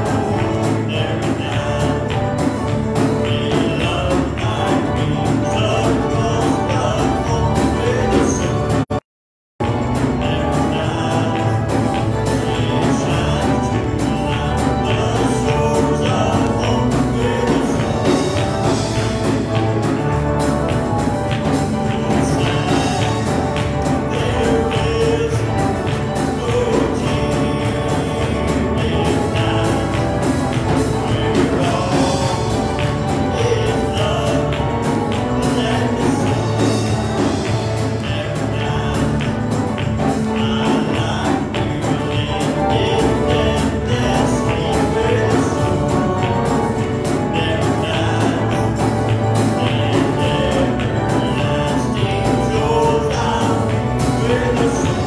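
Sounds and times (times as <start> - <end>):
church choir singing gospel: 0.0 - 8.9, 9.6 - 55.0
drum kit beat: 0.0 - 9.0, 9.6 - 55.0.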